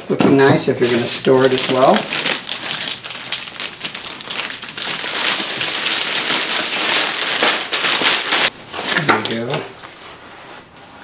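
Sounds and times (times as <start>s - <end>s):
plastic bag crinkling and rustling: 0.1s - 10.1s.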